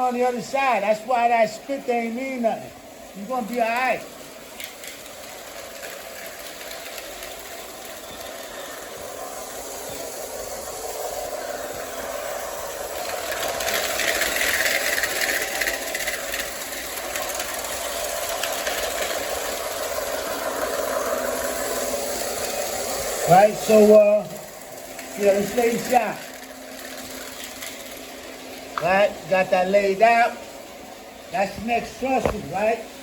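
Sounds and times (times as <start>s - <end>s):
model train motor hum and wheel rattle: 0.0s - 33.0s.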